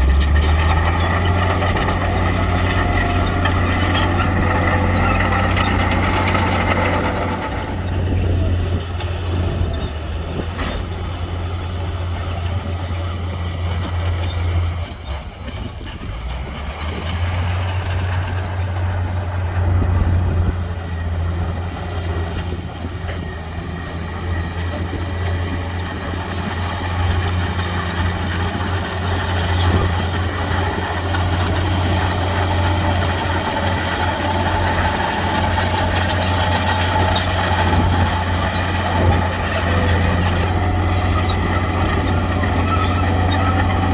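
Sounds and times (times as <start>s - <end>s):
diesel machinery engine drone: 0.0s - 43.9s.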